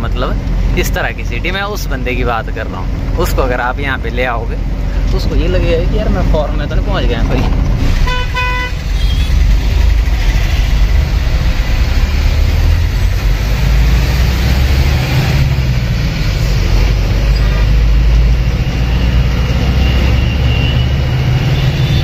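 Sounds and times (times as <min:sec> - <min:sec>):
road and traffic noise: 0:00.0 - 0:22.0
truck engine drone: 0:00.0 - 0:22.0.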